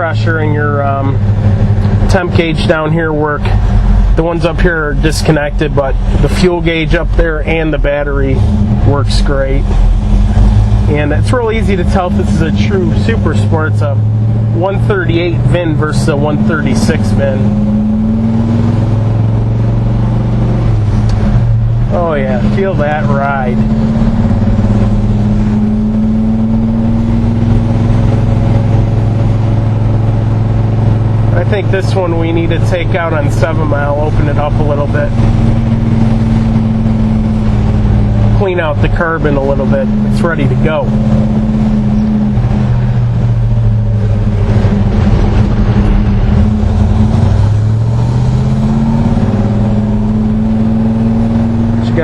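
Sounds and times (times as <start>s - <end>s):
car engine running steadily: 0.0s - 52.0s.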